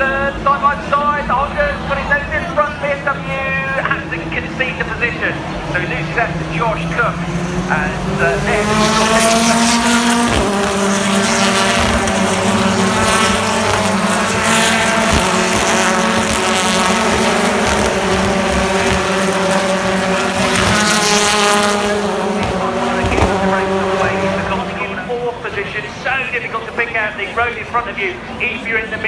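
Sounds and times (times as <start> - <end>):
race car engines running hard: 0.0 - 29.0.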